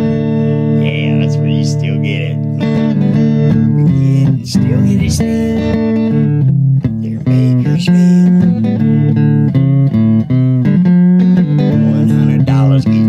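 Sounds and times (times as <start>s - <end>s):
guitar and bass instrumental: 0.0s - 13.0s.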